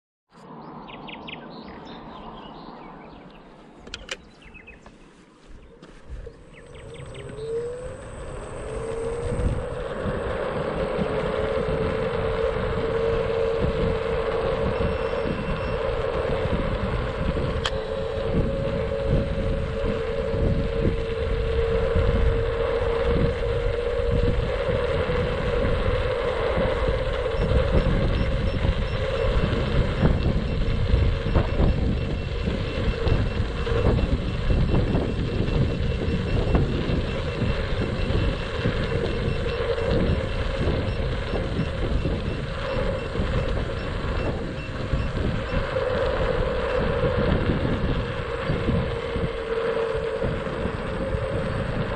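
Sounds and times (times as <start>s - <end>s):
wind buffeting microphone: 0.6s - 51.9s
electric motor whine: 2.7s - 51.9s.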